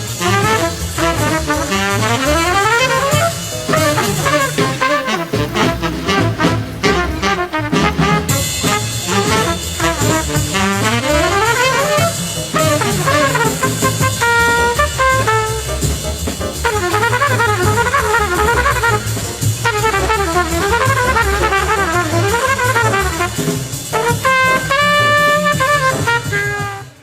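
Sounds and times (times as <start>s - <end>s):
upbeat jazz with brass and drums: 0.0s - 27.0s.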